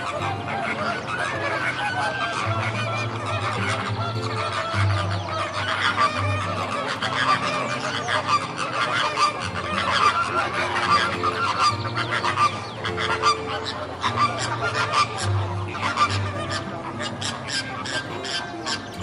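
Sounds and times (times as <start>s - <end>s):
flamingos honking: 0.0s - 19.0s.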